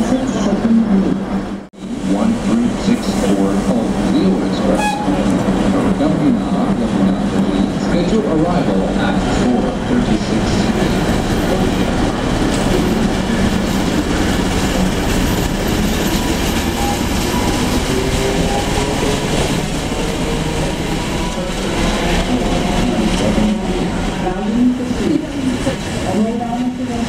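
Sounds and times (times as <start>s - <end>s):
diesel locomotive engine humming: 0.0s - 27.0s.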